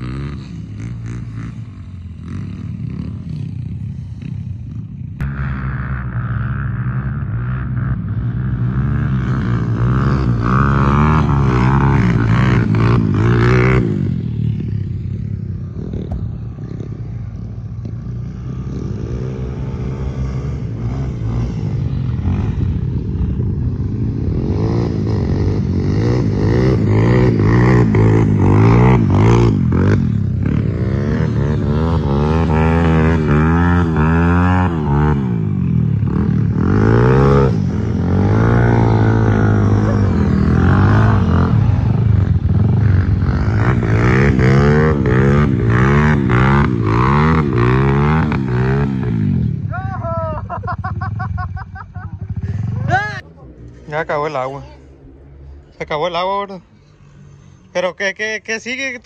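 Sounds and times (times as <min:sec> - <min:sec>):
dirt bike engine revving: 0:00.0 - 0:53.2.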